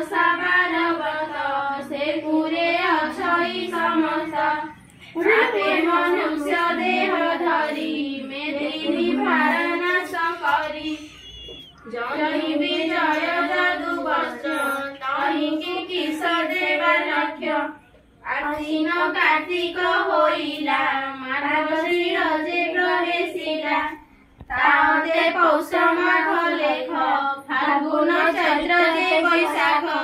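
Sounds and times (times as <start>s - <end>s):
women and girls singing a hymn: 0.0s - 30.0s.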